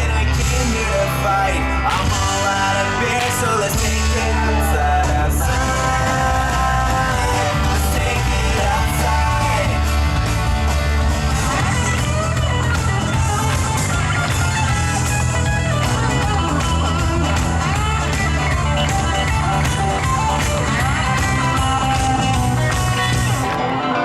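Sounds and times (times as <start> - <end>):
upbeat rock music with guitar: 0.0 - 24.0.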